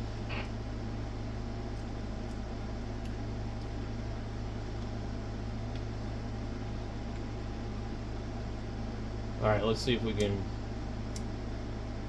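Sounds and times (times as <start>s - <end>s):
fan-like hiss: 0.0s - 12.0s
low electrical hum: 0.0s - 12.0s.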